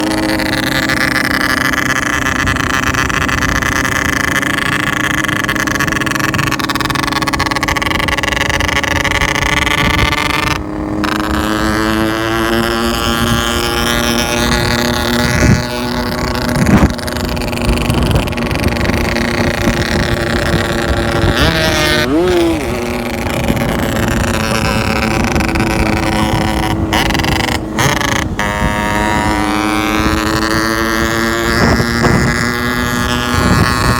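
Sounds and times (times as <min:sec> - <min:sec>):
two-stroke motorcycle engine running: 0:00.0 - 0:33.9.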